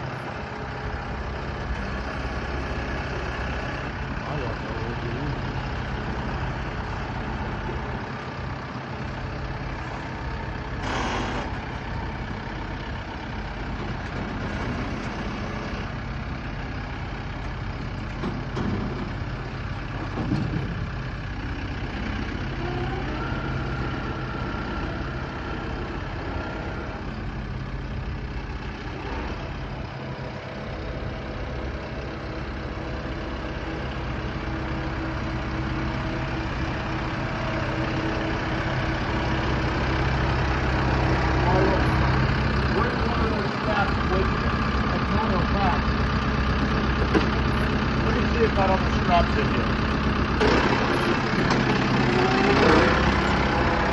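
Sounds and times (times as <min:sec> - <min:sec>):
heavy vehicle engine idling: 0:00.0 - 0:53.9.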